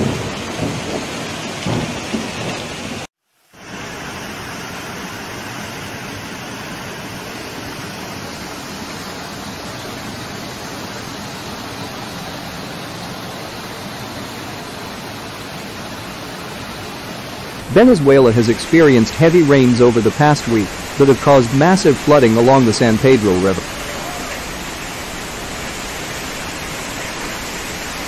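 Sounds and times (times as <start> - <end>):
flood water rushing: 0.0 - 28.0.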